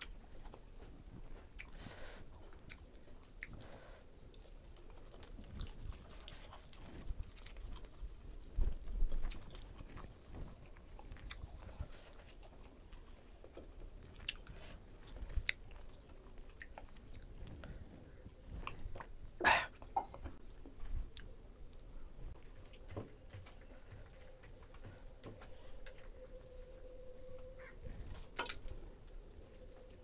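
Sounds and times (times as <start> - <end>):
man chewing food: 0.0 - 30.0.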